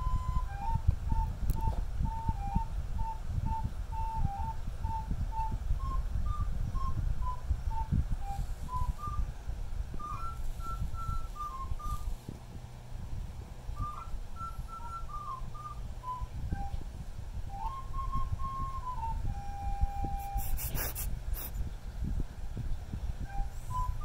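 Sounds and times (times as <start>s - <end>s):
person whistling a tune: 0.0s - 9.3s, 10.0s - 12.1s, 13.8s - 16.8s, 17.4s - 21.5s, 23.2s - 24.0s.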